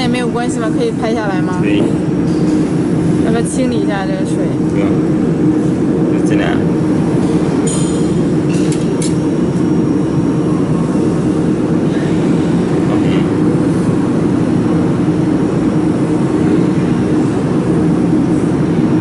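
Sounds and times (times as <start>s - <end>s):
cooling fan machine hum: 0.0s - 19.0s.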